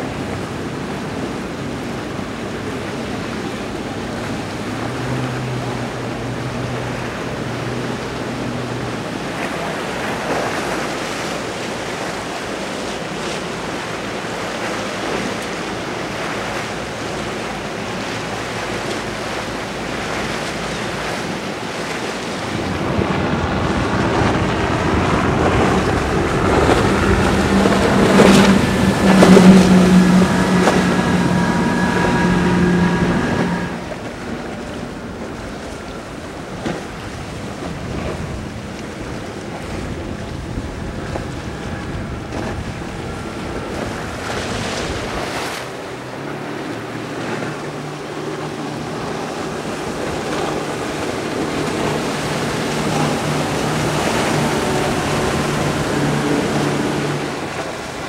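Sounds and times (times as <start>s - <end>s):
low engine hum: 0.0s - 58.0s
outboard motors running: 0.0s - 58.0s
waves and spray: 0.0s - 58.0s
wind: 0.0s - 58.0s.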